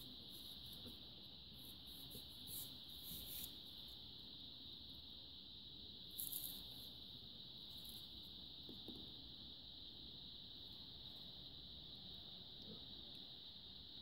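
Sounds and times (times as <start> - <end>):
faint high-pitched hiss: 0.0 - 14.0.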